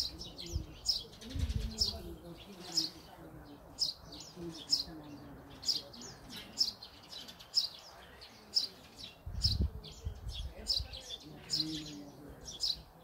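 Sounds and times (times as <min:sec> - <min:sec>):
people talking: 0:00.0 - 0:13.0
songbird chirping: 0:00.0 - 0:13.0.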